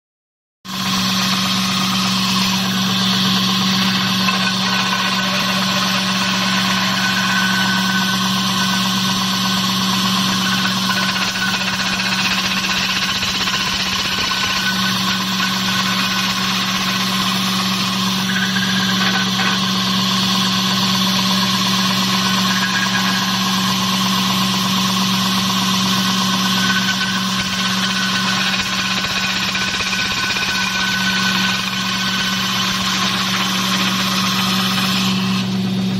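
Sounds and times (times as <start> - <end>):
electric motor hum: 0.7 - 35.9.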